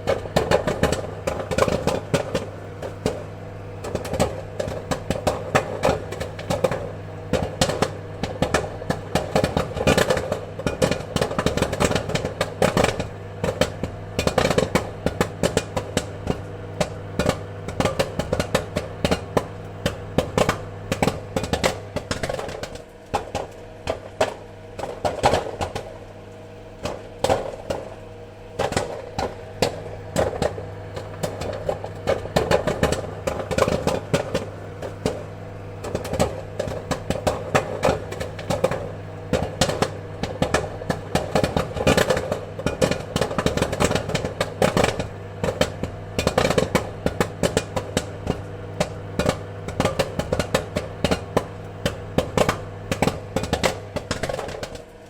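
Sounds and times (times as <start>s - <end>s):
popcorn kernels popping: 0.0s - 55.0s
steady low hum: 0.0s - 55.0s.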